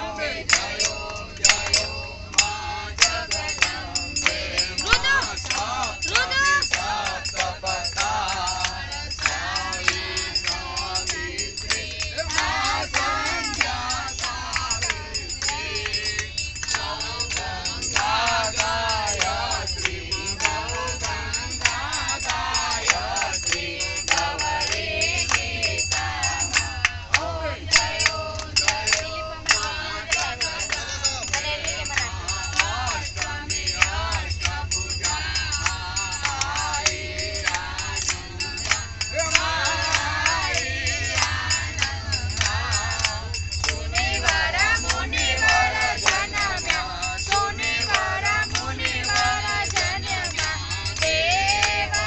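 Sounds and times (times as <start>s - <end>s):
women singing devotional song: 0.0s - 52.0s
hand claps: 0.3s - 52.0s.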